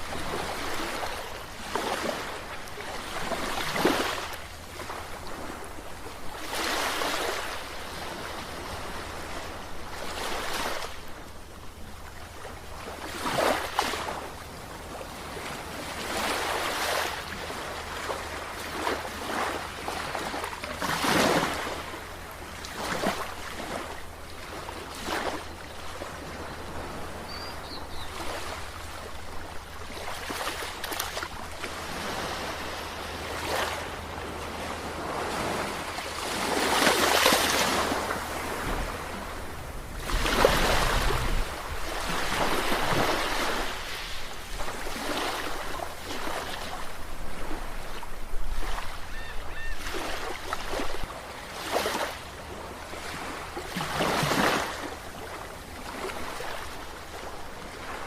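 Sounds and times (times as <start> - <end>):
sea waves washing in: 0.0 - 49.1.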